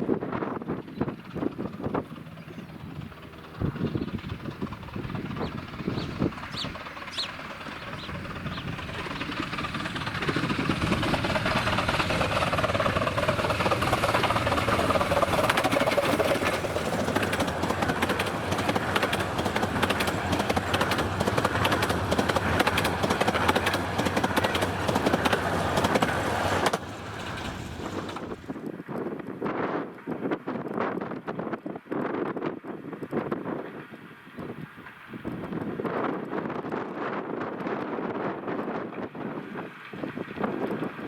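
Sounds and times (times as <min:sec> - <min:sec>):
miniature train passing: 0:00.0 - 0:41.0
wheels clicking on track: 0:00.6 - 0:41.0.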